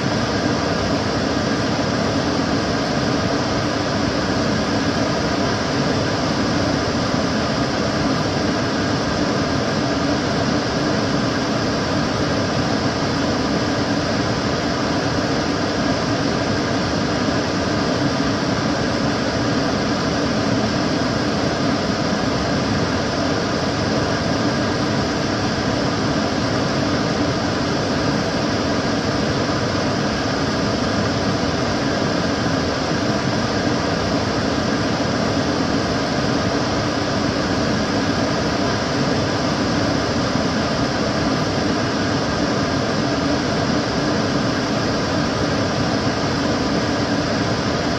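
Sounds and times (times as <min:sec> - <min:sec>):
extractor fan running: 0:00.0 - 0:47.9.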